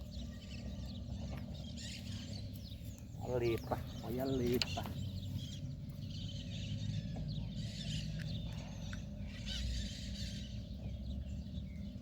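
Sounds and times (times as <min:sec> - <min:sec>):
birds chirping and calling: 0:00.0 - 0:12.0
steady low hum: 0:00.0 - 0:12.0.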